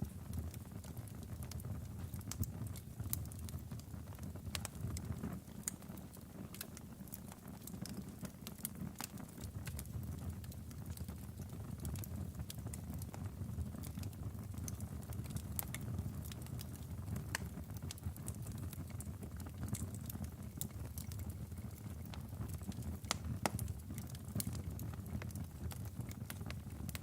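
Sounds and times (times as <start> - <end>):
fire crackling and popping: 0.0 - 27.0
low rumble of flame: 0.0 - 27.0.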